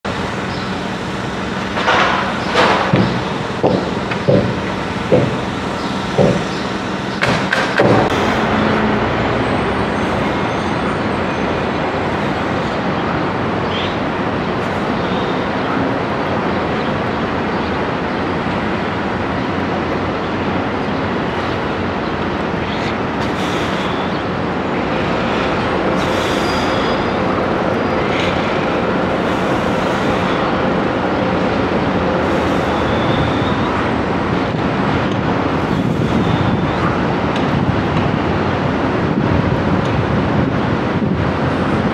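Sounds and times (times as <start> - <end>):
engines and traffic din: 0.0 - 41.9.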